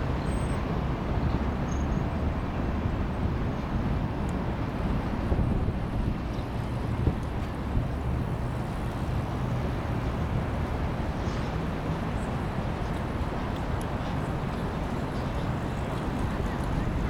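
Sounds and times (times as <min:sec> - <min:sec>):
wind on the microphone: 0:00.1 - 0:17.0.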